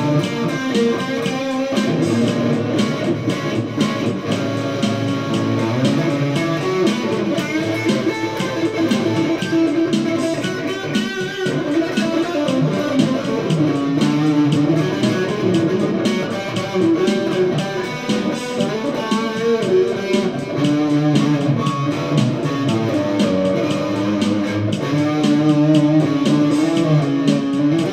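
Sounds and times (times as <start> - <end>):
electric guitar through amplifier: 0.0 - 27.9.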